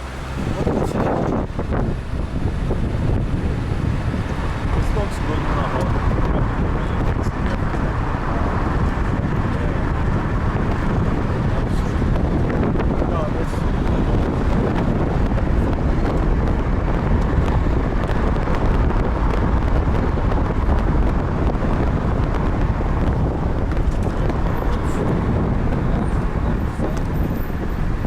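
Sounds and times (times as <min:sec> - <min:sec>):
road and engine rumble: 0:00.0 - 0:28.0
wind noise: 0:00.0 - 0:28.0.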